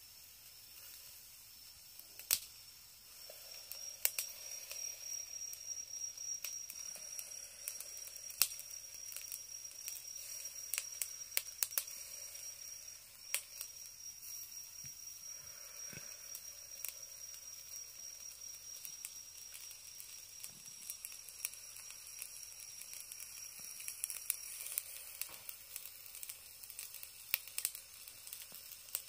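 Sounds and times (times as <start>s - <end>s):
meat sizzling on grill: 0.0s - 29.0s
charcoal pops and crackles: 0.4s - 29.0s.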